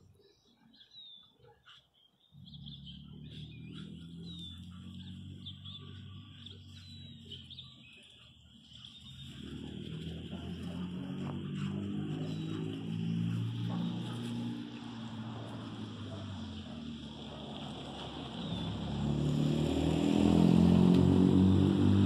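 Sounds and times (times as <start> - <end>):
small birds chirping: 0.0 - 19.6
low engine hum: 2.4 - 22.0.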